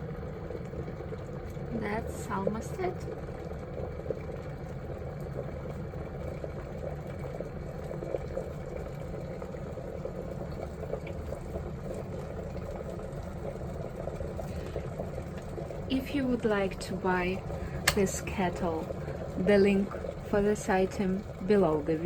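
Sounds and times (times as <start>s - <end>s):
water boiling in kettle: 0.0s - 22.0s.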